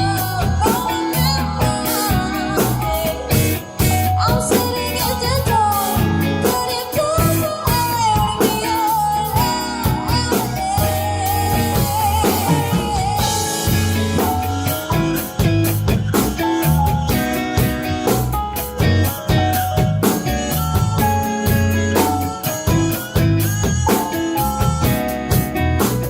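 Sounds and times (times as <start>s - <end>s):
rock band playing: 0.0s - 26.0s
sliding lead melody: 0.0s - 26.0s.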